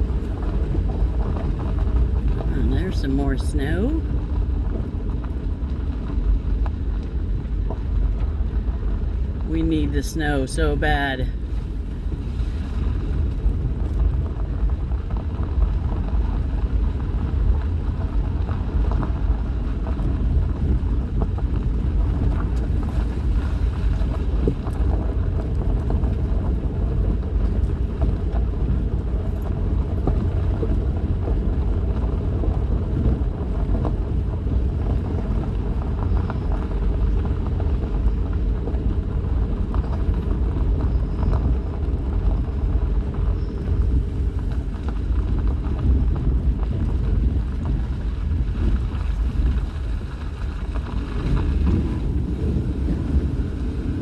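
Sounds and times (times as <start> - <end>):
vehicle rattles and knocks: 0.0 - 2.5, 3.7 - 9.5, 11.4 - 54.0
engine and tyre rumble: 0.0 - 54.0.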